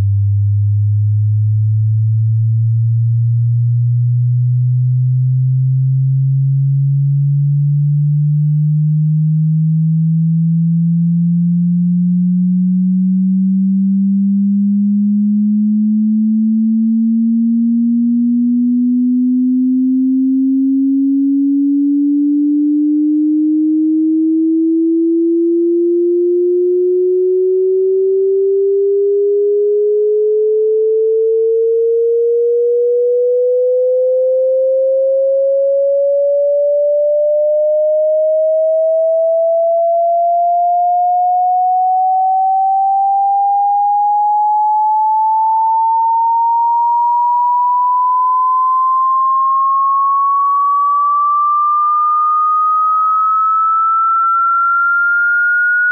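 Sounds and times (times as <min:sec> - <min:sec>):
sine tone sweeping upward: 0:00.0 - 0:55.9.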